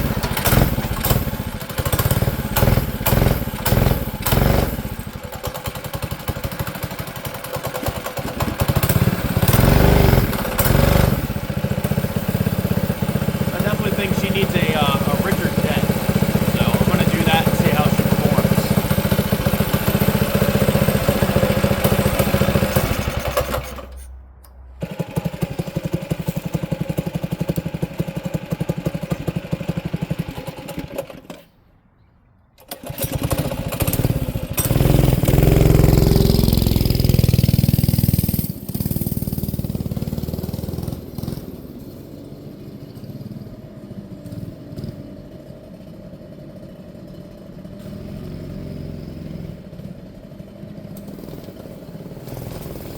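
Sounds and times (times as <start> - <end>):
mini bike engine revving: 0.0 - 24.0, 24.8 - 31.6, 32.6 - 52.9.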